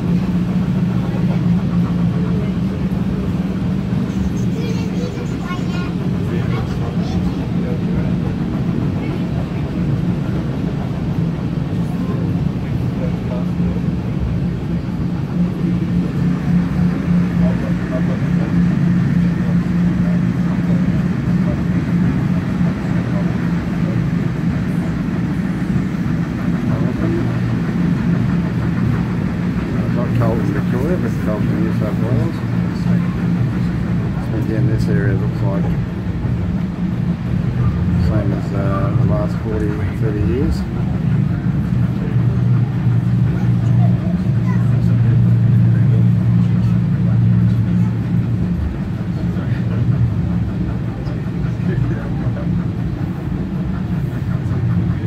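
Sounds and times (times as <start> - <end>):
constant hum: 0.0 - 55.0
train wheels rumbling on rail: 0.0 - 55.0.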